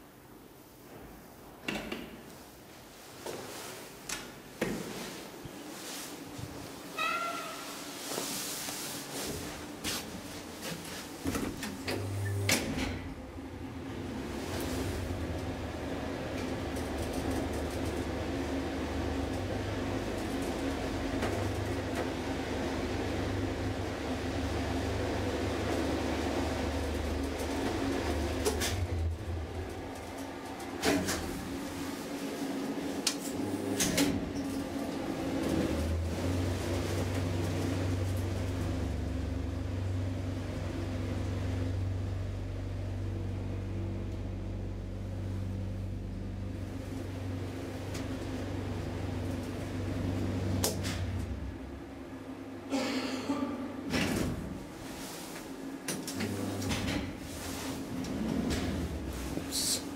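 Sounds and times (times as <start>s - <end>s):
elevator car rumble and hum: 0.0s - 59.9s.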